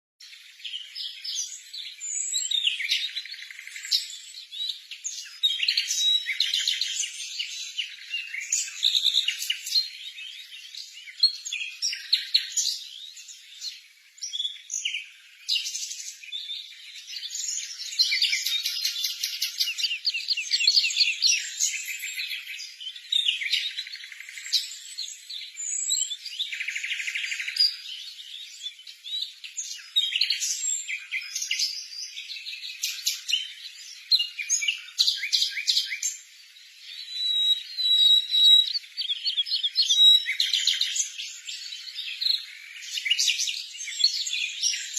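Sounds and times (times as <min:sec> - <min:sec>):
sparrows chirping: 0:00.2 - 0:44.9.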